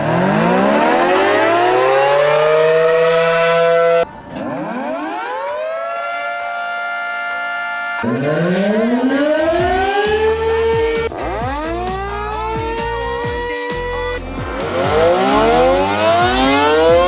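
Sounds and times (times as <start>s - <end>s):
quieter siren winding up: 0.0s - 17.0s
warning siren winding up: 0.0s - 17.0s.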